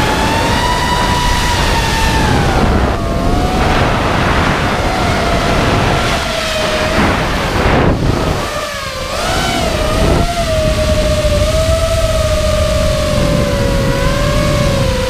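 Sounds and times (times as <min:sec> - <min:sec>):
drone motors whining: 0:00.0 - 0:15.0
wind rush on microphone: 0:00.0 - 0:15.0.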